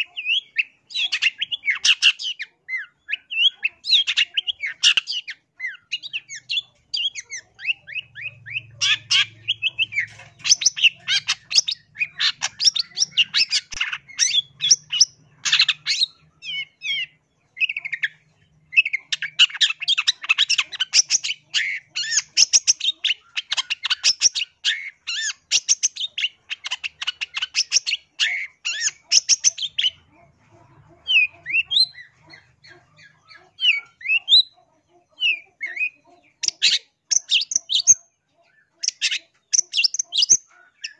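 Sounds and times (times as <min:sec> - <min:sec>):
bird chattering song: 0:00.0 - 0:40.9.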